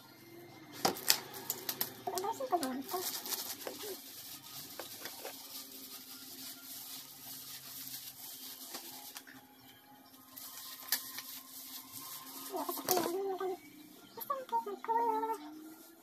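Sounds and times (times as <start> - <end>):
plastic gloves rustling through hair: 0.6 - 16.0.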